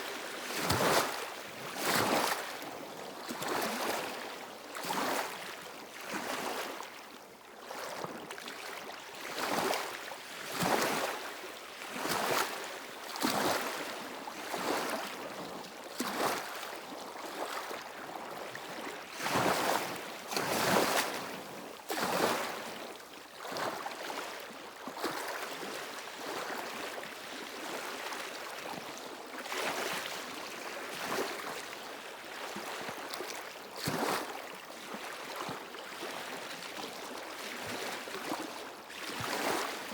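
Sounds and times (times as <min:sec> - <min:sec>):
waves lapping on stony shore: 0:00.4 - 0:07.0, 0:07.7 - 0:15.4, 0:16.0 - 0:31.7, 0:32.3 - 0:39.9.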